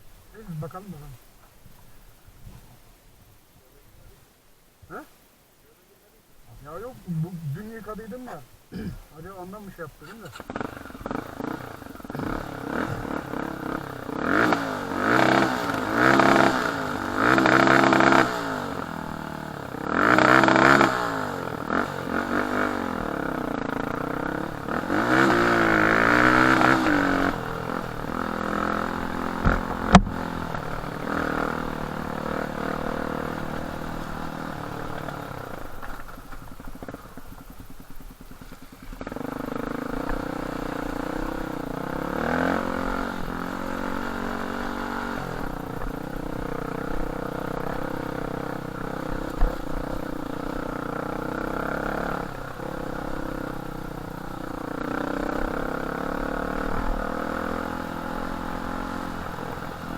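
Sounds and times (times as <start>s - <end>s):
dirt bike engine revving: 6.6s - 59.9s.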